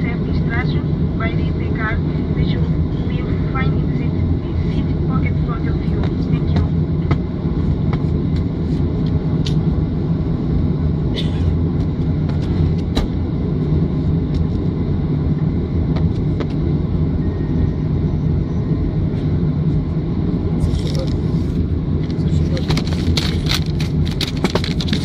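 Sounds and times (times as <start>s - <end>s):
aircraft engines low rumble: 0.0s - 25.0s.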